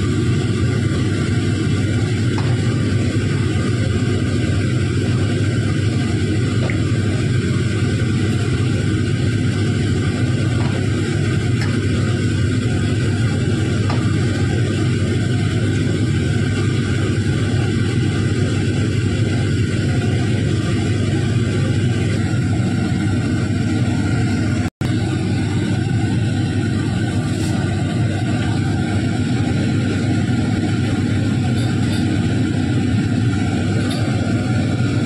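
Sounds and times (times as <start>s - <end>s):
mechanical drone with hiss: 0.0s - 35.0s.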